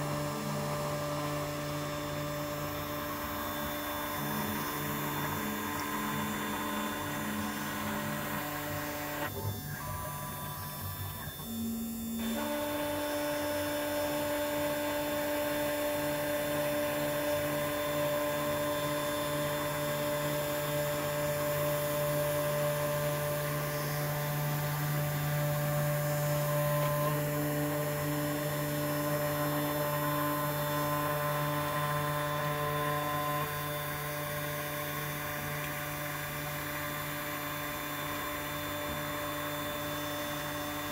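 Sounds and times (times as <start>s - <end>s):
milling machine motor whine: 0.0s - 40.9s.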